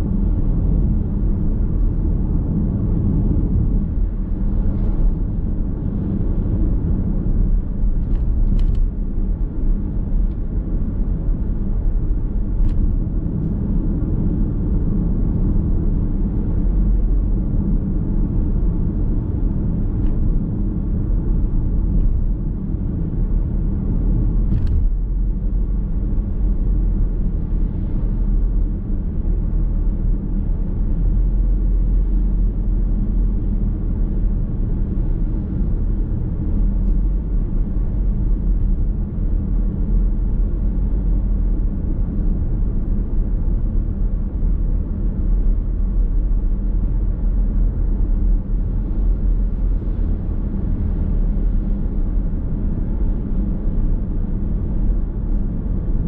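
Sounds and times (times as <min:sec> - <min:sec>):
car tyres rumbling on road: 0:00.0 - 0:56.0.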